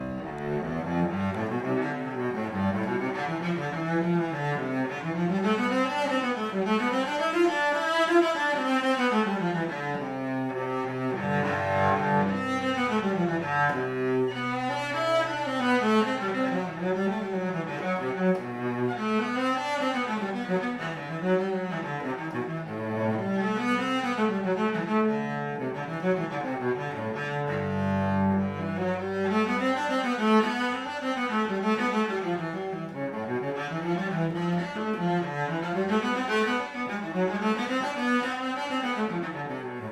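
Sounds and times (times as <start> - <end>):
solo cello bowed: 0.0 - 39.9.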